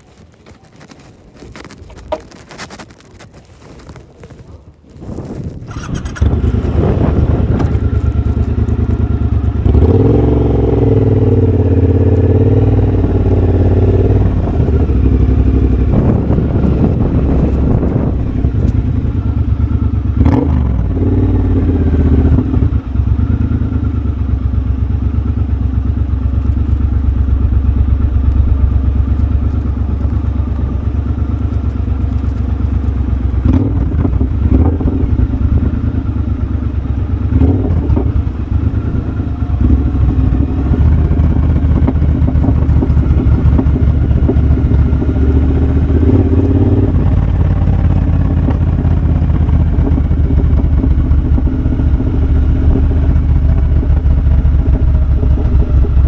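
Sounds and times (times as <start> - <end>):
motorcycle engine revving: 5.5 - 56.0.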